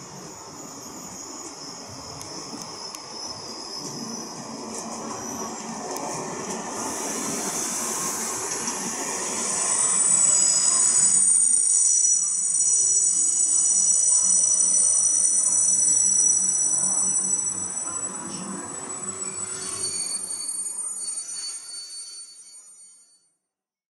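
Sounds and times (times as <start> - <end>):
train wheels rumbling on rails: 0.0 - 20.8
high-pitched squeal: 0.0 - 23.3.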